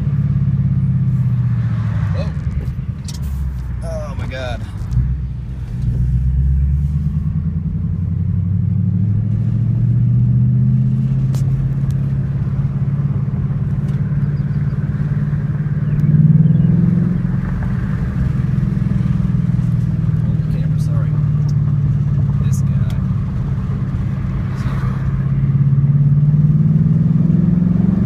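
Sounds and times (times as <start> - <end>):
car exhaust note while driving: 0.0 - 28.0.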